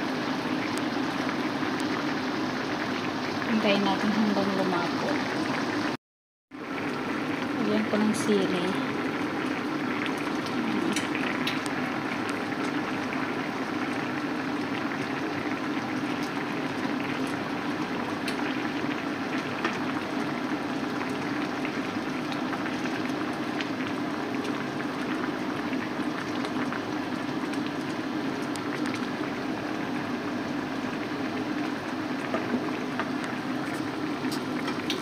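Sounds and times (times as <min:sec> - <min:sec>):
curry bubbling in a pan: 0:00.0 - 0:06.0, 0:06.6 - 0:35.0.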